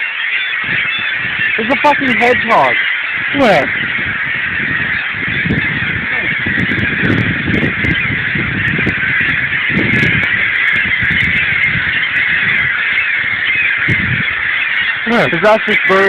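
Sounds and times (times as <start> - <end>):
seagulls calling: 0.0 - 16.0.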